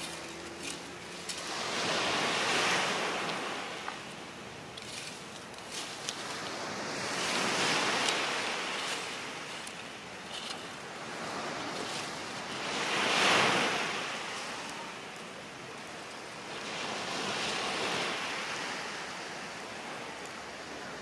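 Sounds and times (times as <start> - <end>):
sea waves washing onto beach: 0.0 - 21.0.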